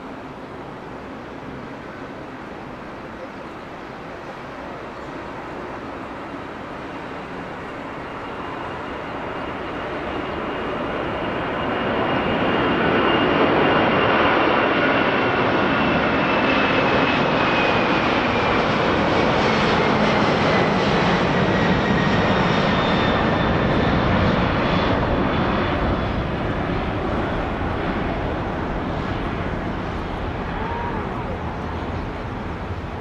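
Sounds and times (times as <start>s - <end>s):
jet engines of passing aircraft: 0.0s - 33.0s.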